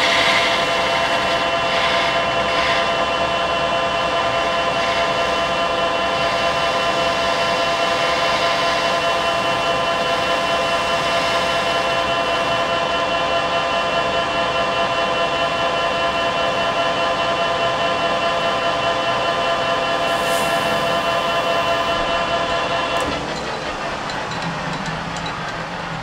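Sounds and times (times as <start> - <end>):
lathe cutting whine: 0.0 - 26.0.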